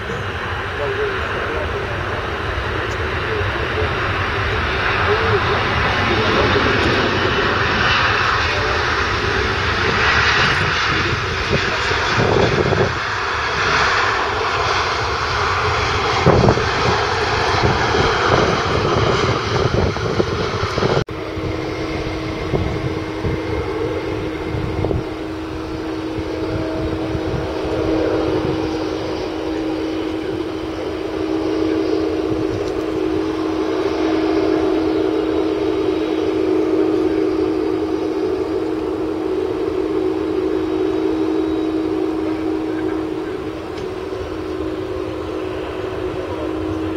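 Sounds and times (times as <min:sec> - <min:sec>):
jet engine rush: 0:00.0 - 0:46.9
jet engine whine: 0:00.0 - 0:46.9.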